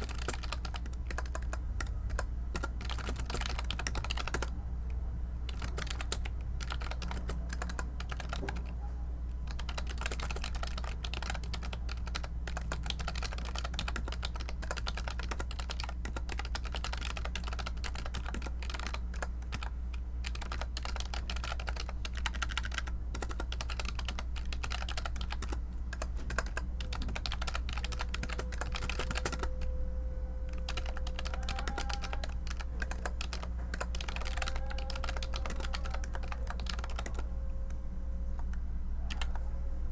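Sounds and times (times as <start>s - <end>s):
keyboard typing: 0.0s - 4.6s, 5.5s - 29.8s, 30.4s - 37.3s, 38.4s - 39.5s
low steady hum: 0.0s - 39.9s.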